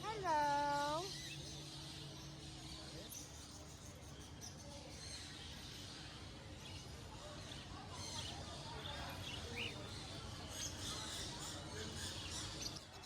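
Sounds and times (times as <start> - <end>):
caged birds chirping: 0.0 - 13.0.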